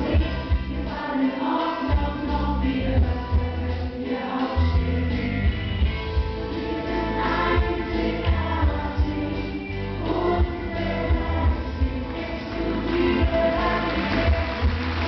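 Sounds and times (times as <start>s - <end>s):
pop music over sound system: 0.0s - 15.0s.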